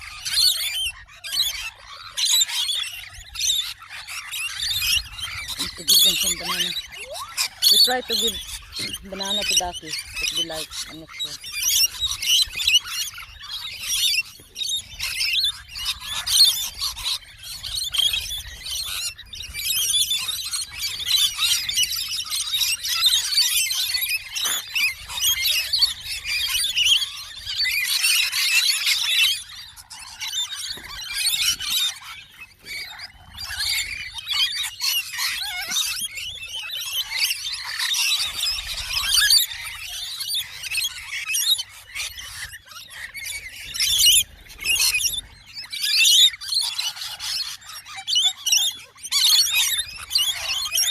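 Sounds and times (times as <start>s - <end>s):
flock of birds screeching: 0.0s - 50.9s.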